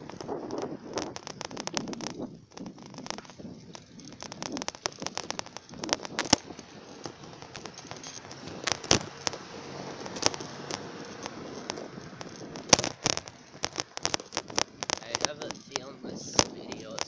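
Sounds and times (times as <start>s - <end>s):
bicycle clicks and knocks: 0.0s - 17.0s
steady rushing noise: 0.0s - 17.0s.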